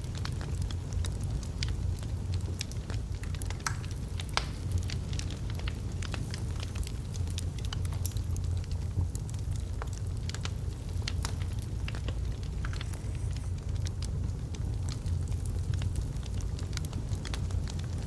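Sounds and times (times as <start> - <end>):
fire rumbling in fireplace: 0.0 - 18.0
logs crackling and popping: 0.0 - 18.0.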